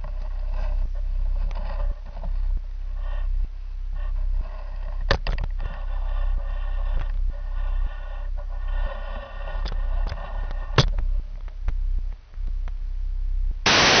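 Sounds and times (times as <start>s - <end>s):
low hum and hiss: 0.0s - 14.0s.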